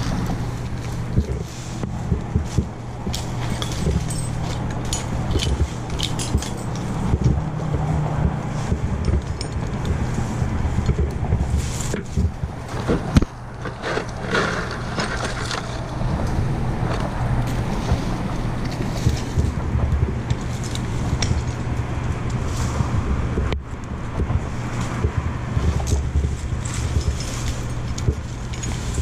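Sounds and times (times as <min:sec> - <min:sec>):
sharp clicks and knocks: 0:00.0 - 0:29.0.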